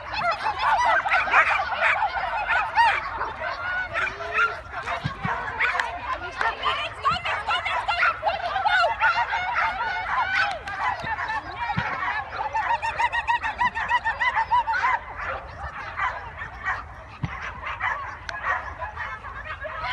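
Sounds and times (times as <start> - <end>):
dogs yelping and barking: 0.0 - 19.9.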